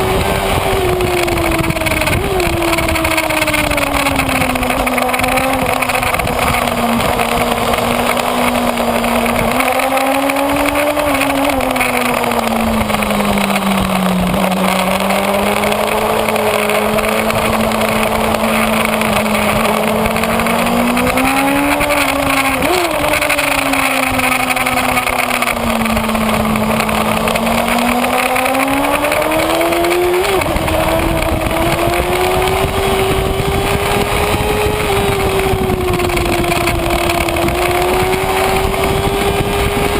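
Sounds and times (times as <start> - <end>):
motorcycle engine at speed: 0.0 - 39.9
steady rush of noise: 0.0 - 39.9.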